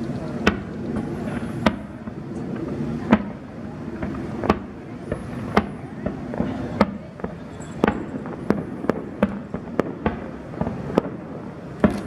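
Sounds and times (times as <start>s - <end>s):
small firework pops: 0.0s - 3.4s, 4.0s - 12.0s
fireworks sharp bangs: 0.0s - 12.0s
steady background rumble: 0.0s - 12.0s.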